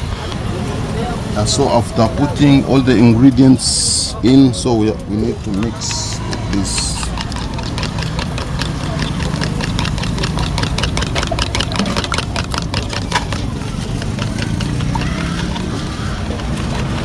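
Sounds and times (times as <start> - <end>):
low engine hum: 0.0 - 17.0
eggs beaten in a cup: 1.4 - 17.0.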